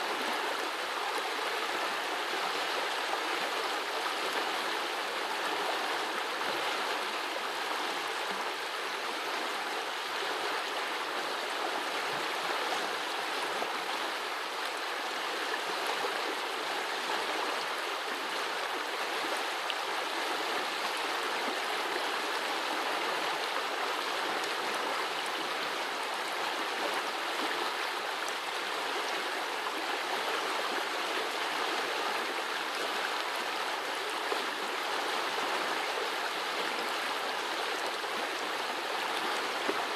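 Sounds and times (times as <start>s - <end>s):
brook gurgling: 0.0s - 39.9s.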